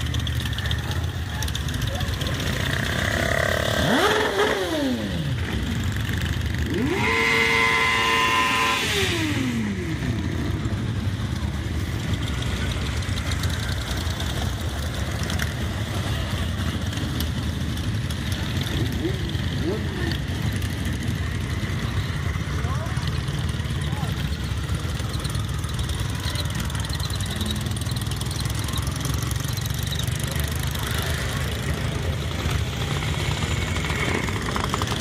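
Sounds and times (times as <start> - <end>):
motorcycle engine revving: 0.0 - 35.0
motorcycle engines rumbling: 0.0 - 35.0.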